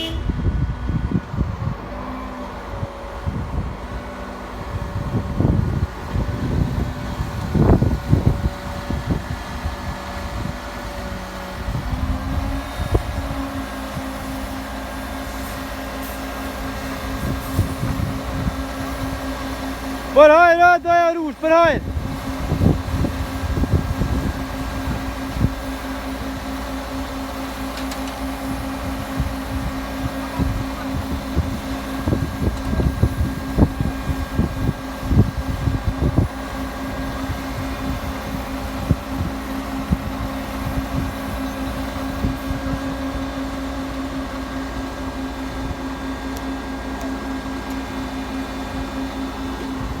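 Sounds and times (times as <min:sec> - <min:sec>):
machine motor humming: 0:01.3 - 0:50.0.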